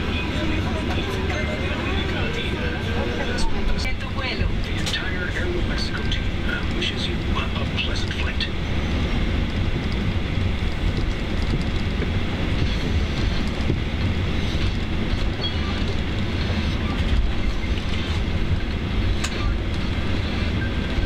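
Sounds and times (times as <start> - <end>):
jet engines low rumble: 0.0 - 21.0
wheels rolling on taxiway: 0.0 - 21.0.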